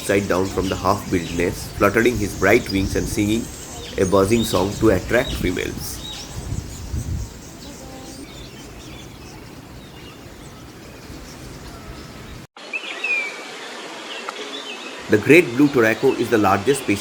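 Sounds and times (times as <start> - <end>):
steady background hiss: 0.0 - 6.4, 7.4 - 17.0
birds chirping and calling: 0.0 - 13.3, 14.5 - 17.0.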